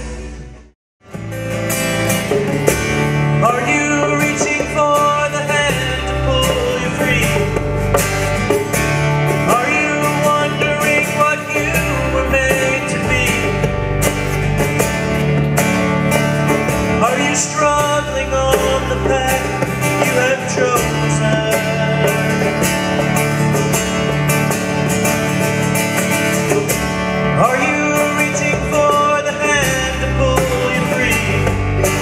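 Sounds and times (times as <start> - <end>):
electric bass: 0.0 - 32.0
strummed acoustic guitar: 0.0 - 32.0.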